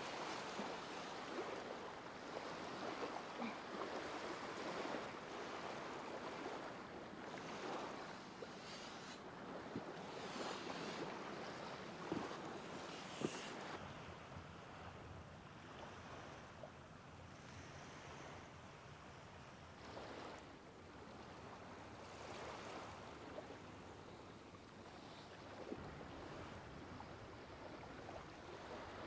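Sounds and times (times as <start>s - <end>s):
small waves at shore: 0.0s - 29.0s.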